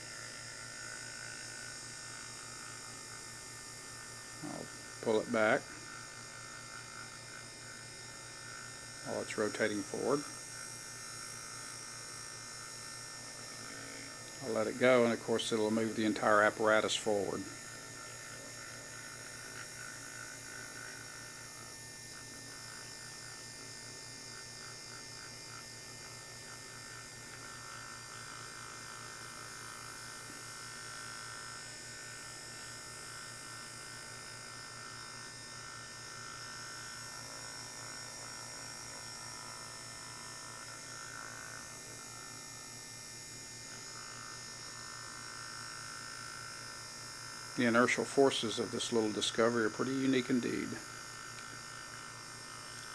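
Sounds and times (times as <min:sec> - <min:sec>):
small electric motor whining: 0:00.0 - 0:52.9.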